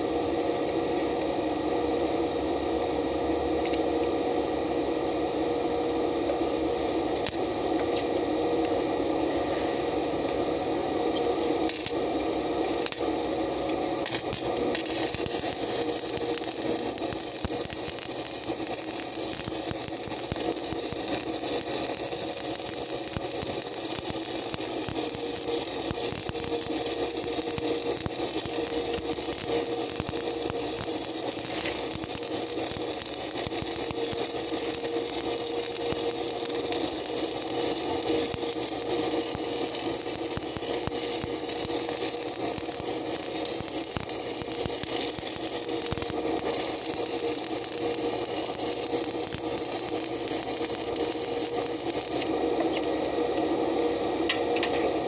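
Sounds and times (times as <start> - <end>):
welding arc crackling and sizzling: 0.0 - 2.6, 5.8 - 55.0
steady hum: 0.0 - 55.0.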